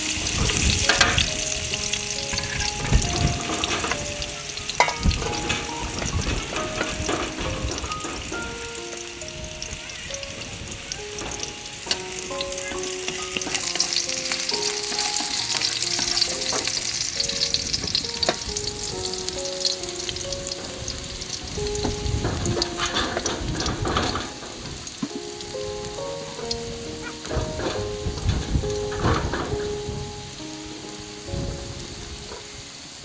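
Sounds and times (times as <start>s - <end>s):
food sizzling in a pan: 0.0s - 33.0s
soft background music: 0.0s - 33.0s.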